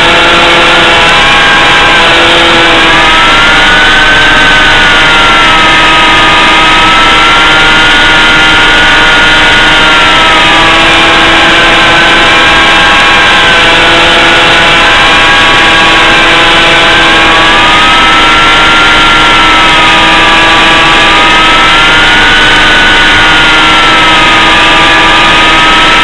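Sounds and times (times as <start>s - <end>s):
electric motor and propeller whine: 0.0s - 26.0s.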